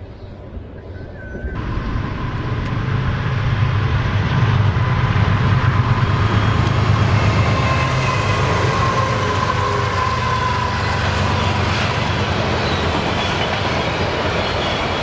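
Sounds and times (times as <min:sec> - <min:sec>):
diesel locomotive rumble: 0:01.6 - 0:15.0.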